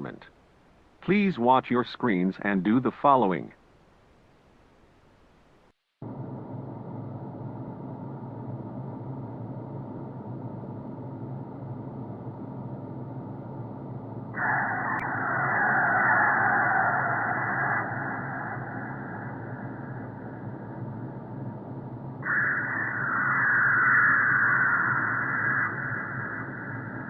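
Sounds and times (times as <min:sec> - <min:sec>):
muffled static-like drone: 0:00.0 - 0:27.0.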